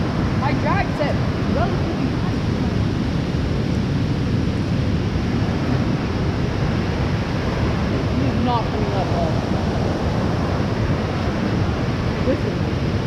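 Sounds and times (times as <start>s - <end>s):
stream rushing into lake: 0.0s - 13.0s.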